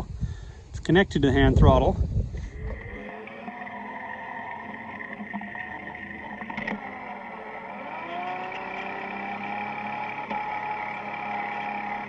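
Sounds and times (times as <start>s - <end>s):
electric motor whine: 2.3s - 12.0s.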